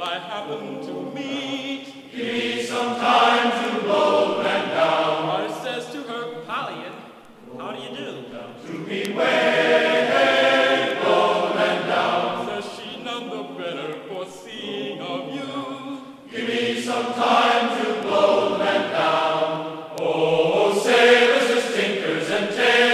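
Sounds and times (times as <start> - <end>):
choir singing long notes: 0.3 - 5.7, 7.4 - 22.9.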